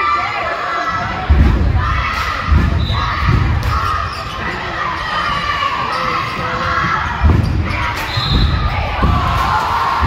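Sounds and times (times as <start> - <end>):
crowd shouting and cheering: 0.0 - 10.0.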